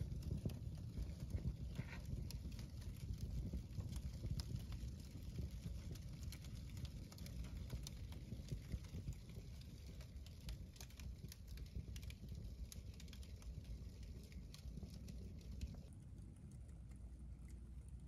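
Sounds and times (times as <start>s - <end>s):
low fire rumble: 0.0s - 18.0s
paper fire crackling and popping: 0.0s - 18.0s.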